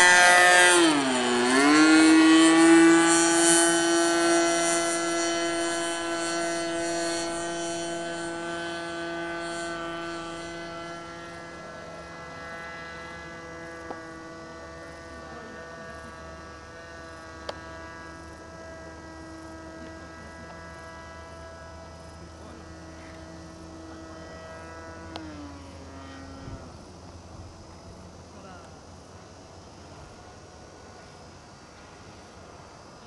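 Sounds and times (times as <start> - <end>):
propeller engine droning: 0.0 - 33.0.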